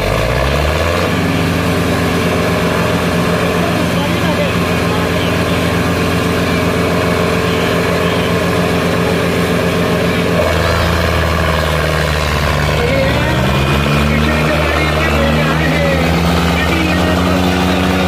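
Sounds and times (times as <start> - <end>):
diesel tractor engines running: 0.0 - 18.0.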